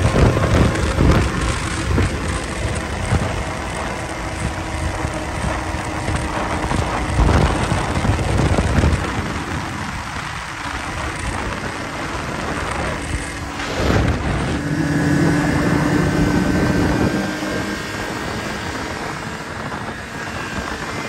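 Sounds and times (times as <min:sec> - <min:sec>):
snowmobile engine drone: 0:00.0 - 0:21.0
wind on microphone: 0:00.0 - 0:21.0.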